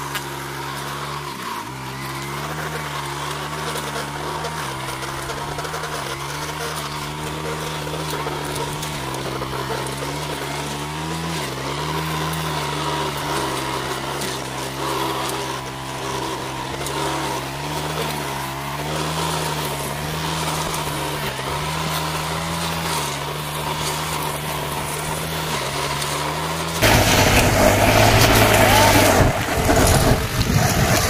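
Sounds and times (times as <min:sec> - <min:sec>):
brush cutter engine running: 0:00.0 - 0:31.0.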